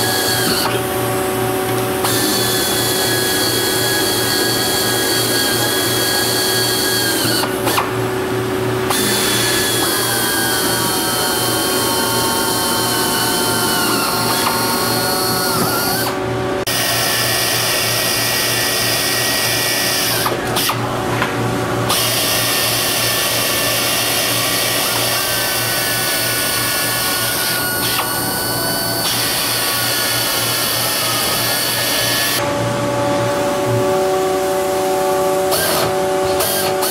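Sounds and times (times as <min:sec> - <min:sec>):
pneumatic drills whining: 0:00.0 - 0:21.0, 0:21.9 - 0:32.5, 0:34.3 - 0:36.9.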